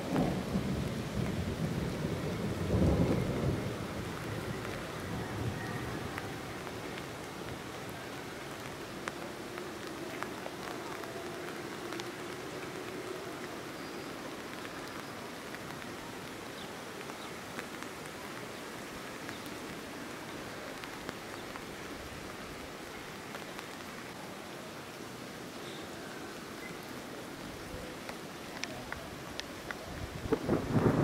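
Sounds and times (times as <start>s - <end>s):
light rain pattering: 0.0s - 31.0s.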